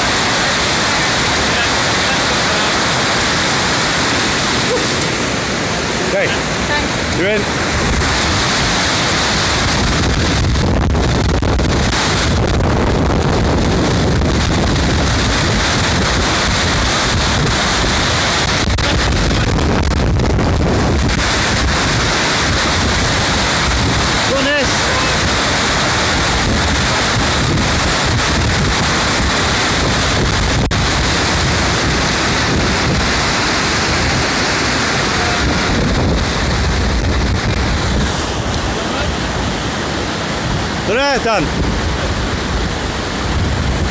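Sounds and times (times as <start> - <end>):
stream rushing over rocks: 0.0 - 43.9
wind buffeting microphone: 0.0 - 43.9.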